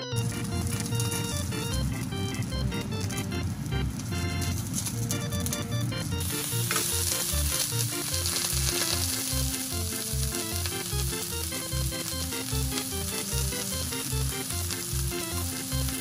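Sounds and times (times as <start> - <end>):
music with steady bass beat: 0.0 - 16.0
fish sizzling in a frying pan: 0.2 - 2.4, 3.0 - 16.0.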